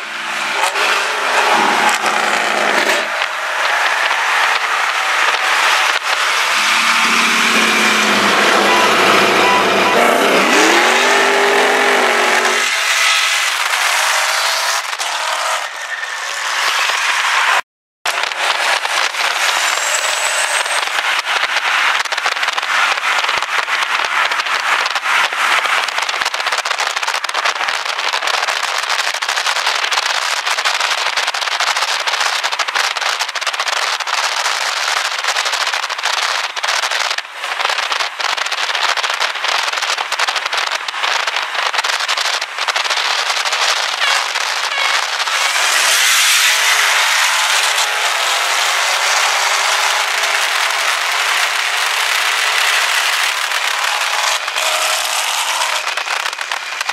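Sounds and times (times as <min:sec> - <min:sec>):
crackling car engines and exhausts: 0:00.0 - 0:56.9.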